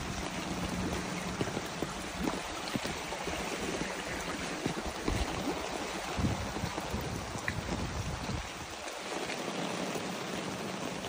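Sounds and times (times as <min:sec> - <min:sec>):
running floodwater: 0:00.0 - 0:11.0
small water splashes: 0:00.0 - 0:11.0.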